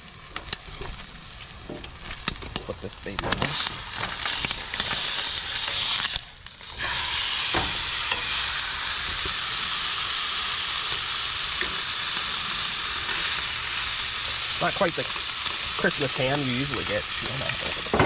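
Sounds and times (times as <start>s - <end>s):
ham sizzling in a frying pan: 0.0s - 18.0s.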